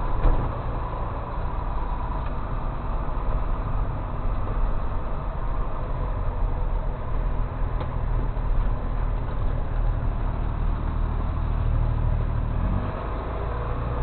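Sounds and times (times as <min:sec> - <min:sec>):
tow truck engine droning: 0:00.0 - 0:14.0.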